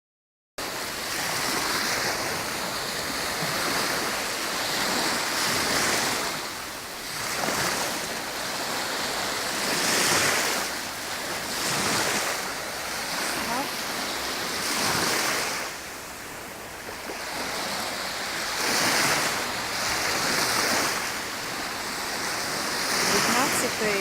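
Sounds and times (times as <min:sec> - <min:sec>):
sea waves washing onto shore: 0:00.6 - 0:24.0.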